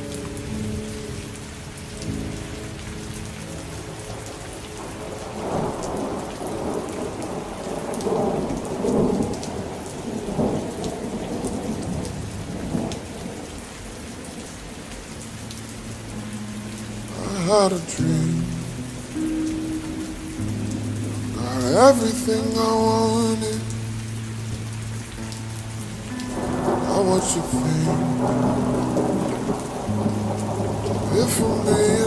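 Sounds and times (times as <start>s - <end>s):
slowed music held notes: 0.0s - 10.9s, 11.6s - 32.0s
raindrops ticking: 0.0s - 32.0s
steady rain: 0.0s - 32.0s
thunder rumbling: 3.0s - 32.0s.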